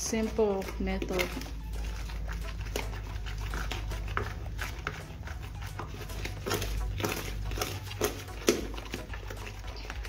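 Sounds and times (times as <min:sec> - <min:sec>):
low steady hum: 0:00.0 - 0:10.0
wooden spoon beating batter: 0:00.0 - 0:10.0.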